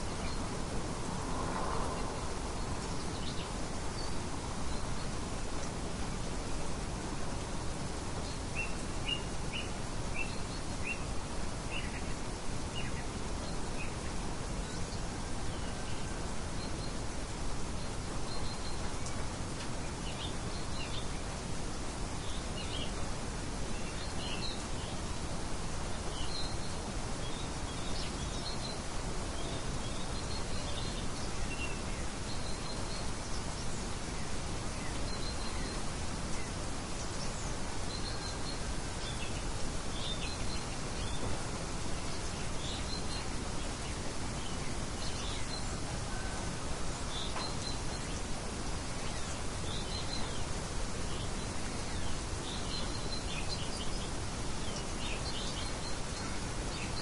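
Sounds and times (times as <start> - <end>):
rushing wind: 0.0 - 57.0
small birds chirping: 0.0 - 57.0.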